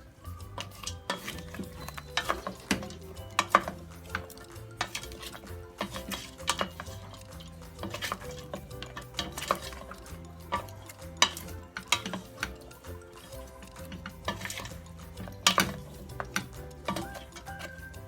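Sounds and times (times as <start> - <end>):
background music: 0.0 - 18.0
utensil scraping in cooking pot: 0.0 - 18.0
utensil clinking against pot: 0.3 - 18.0.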